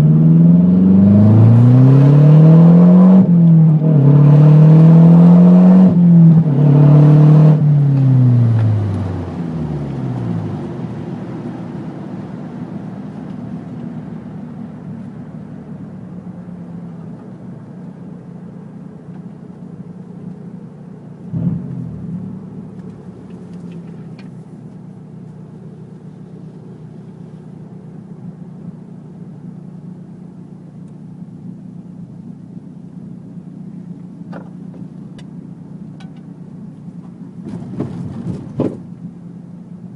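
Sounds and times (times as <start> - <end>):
car engine revving and idling: 0.0 - 39.9.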